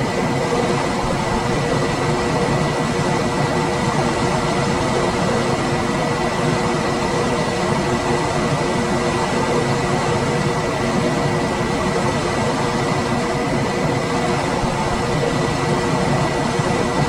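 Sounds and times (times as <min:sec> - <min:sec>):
air conditioner fan rushing: 0:00.0 - 0:17.0.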